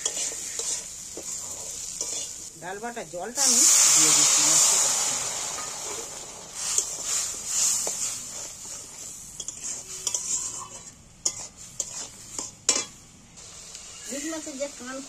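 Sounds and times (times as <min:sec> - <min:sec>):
metal spatula scraping wok: 0:00.0 - 0:02.5, 0:03.4 - 0:13.0
water hissing in hot oil: 0:00.0 - 0:12.8, 0:13.4 - 0:15.0.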